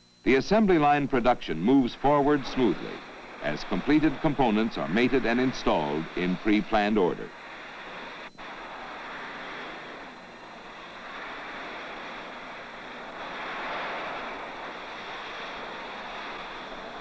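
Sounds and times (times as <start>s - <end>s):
old film soundtrack hiss: 0.0s - 17.0s.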